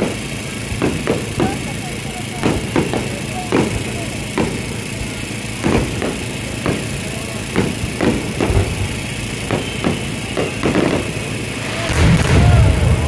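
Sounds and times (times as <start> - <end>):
fireworks booming: 0.0 - 13.0
steady background din: 0.0 - 13.0.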